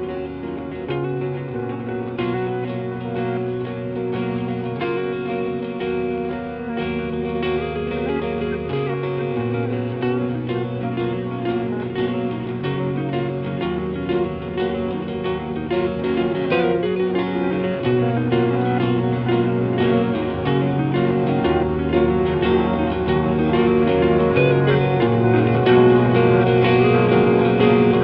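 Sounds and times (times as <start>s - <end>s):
bass line: 0.0s - 28.0s
picked guitar notes: 0.0s - 28.0s.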